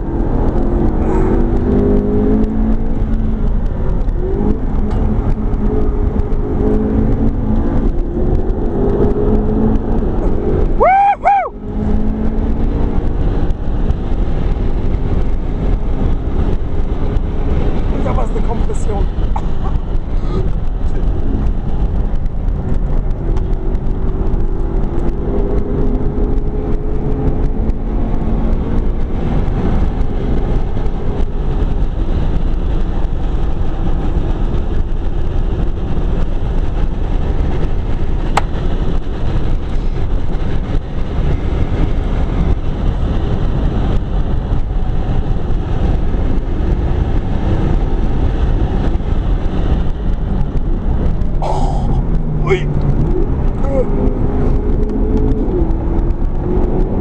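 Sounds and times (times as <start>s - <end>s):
car engine running hard: 0.0s - 57.0s
road and tyre rumble: 0.0s - 57.0s.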